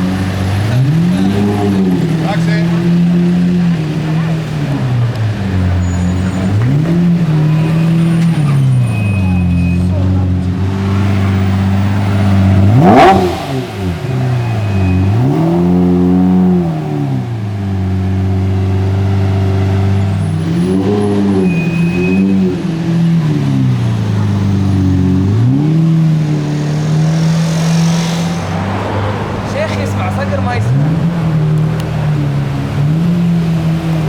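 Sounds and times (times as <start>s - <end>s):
car engine idling: 0.0s - 34.0s
engine revving: 0.0s - 34.0s.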